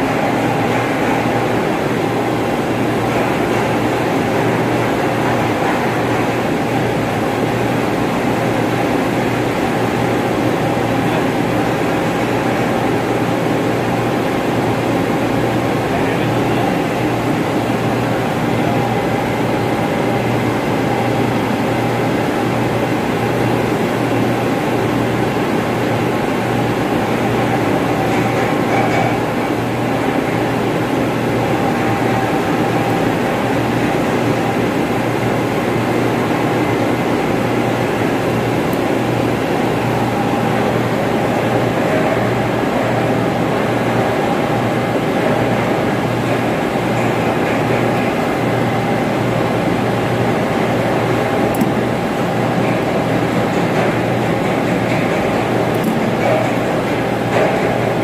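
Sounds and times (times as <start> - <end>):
ventilation fan drone: 0.0 - 58.0.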